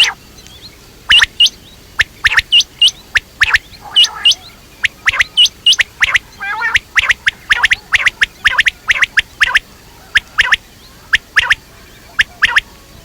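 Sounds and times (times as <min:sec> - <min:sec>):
quail chirping: 0:00.0 - 0:13.0.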